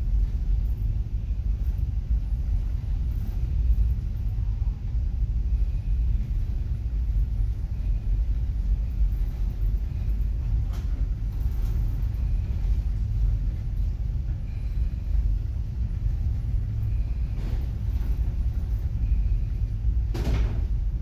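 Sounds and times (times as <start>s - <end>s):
ferry engines rumbling: 0.0s - 21.0s.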